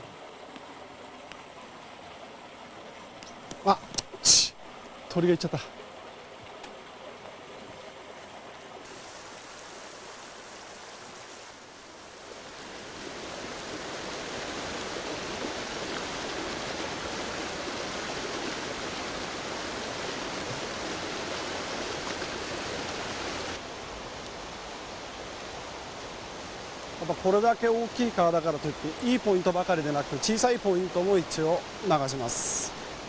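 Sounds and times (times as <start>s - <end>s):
stream rushing over boulders: 0.0s - 33.0s.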